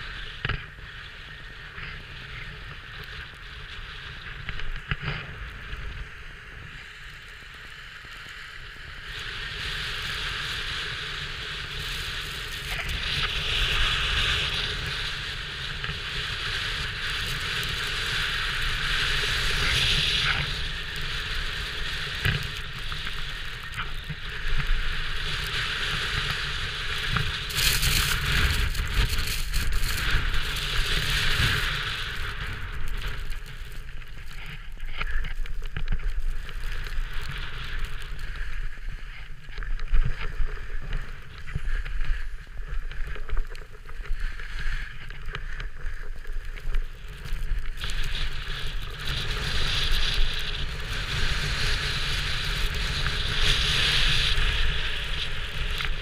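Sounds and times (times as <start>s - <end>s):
skis scraping over packed snow: 0.0s - 56.0s
wind rumbling on microphone: 0.0s - 56.0s.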